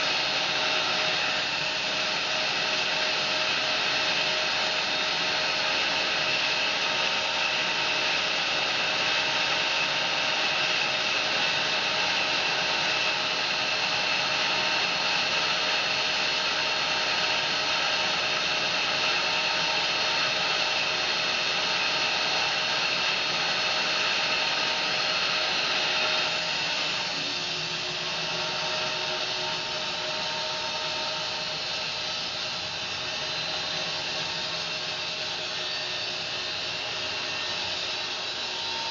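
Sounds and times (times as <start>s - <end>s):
bandsaw mill cutting log: 0.0s - 38.9s.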